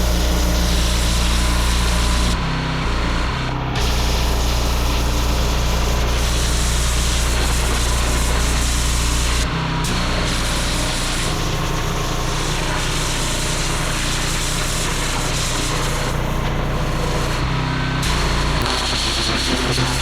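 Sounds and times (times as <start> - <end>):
water spray hissing: 0.0 - 2.4, 3.8 - 20.0
pressure washer engine: 0.0 - 20.0.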